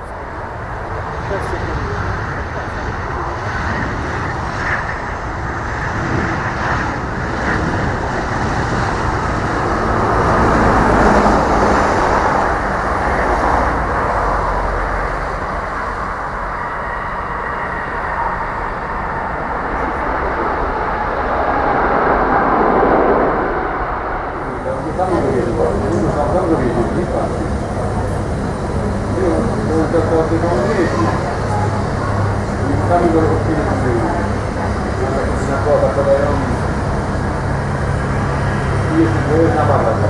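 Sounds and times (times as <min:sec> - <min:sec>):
jet engines landing: 0:00.0 - 0:40.0.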